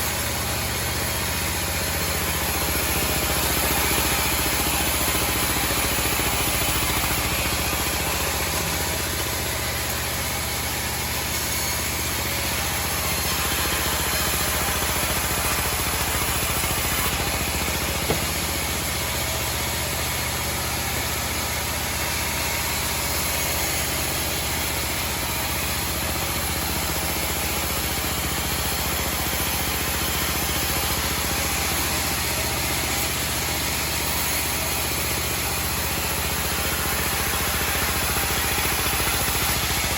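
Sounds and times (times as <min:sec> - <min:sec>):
band sawmill engine running: 0:00.0 - 0:39.9.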